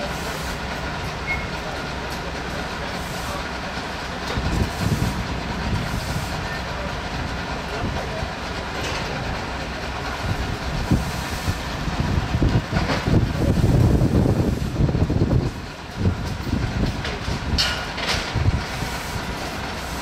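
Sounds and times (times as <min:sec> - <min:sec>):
rail maintenance car rumble: 0:00.0 - 0:20.0.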